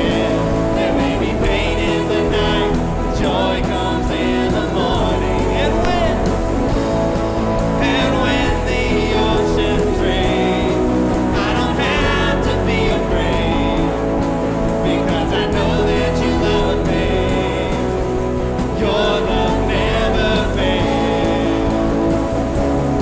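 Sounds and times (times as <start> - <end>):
person singing: 0.0 - 22.2
bass: 0.0 - 23.0
guitar: 0.0 - 23.0.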